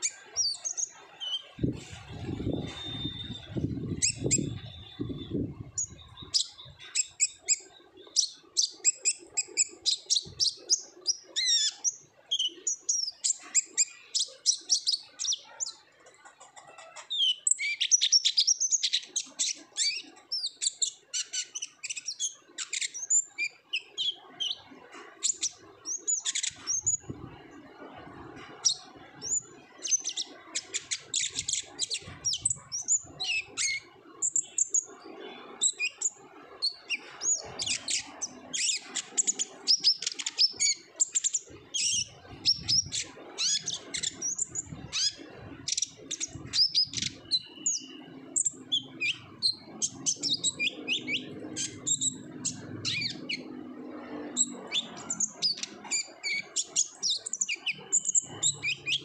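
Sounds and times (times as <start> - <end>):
sunbird chirping and trilling: 0.0 - 15.9, 17.1 - 59.0.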